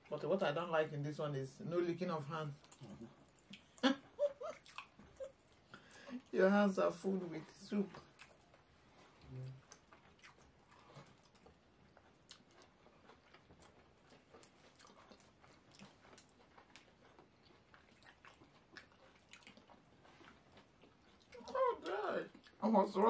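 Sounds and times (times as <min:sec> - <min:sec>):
wet chewing clicks: 0:02.5 - 0:06.0, 0:07.9 - 0:23.0.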